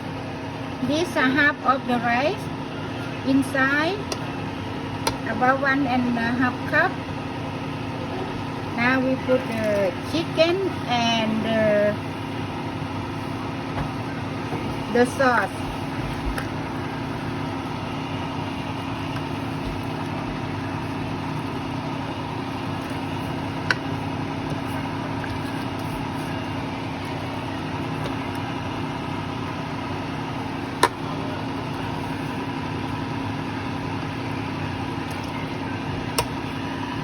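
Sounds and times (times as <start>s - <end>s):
motor or fan hum: 0.0s - 37.0s.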